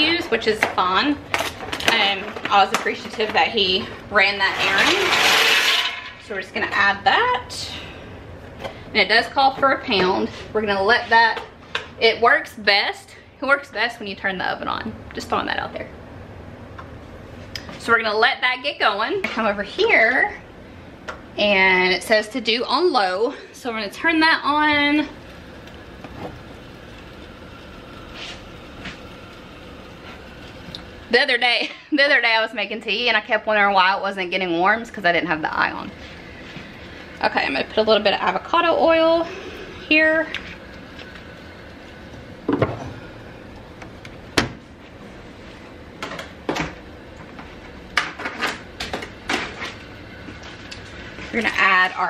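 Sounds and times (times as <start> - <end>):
kitchen background hum and hiss: 0.0 - 52.0.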